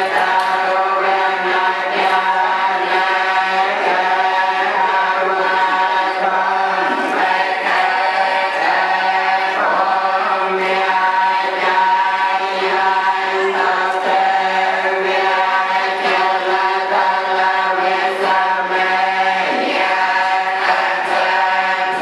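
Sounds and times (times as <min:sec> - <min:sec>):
monks chanting in monotone: 0:00.0 - 0:22.0.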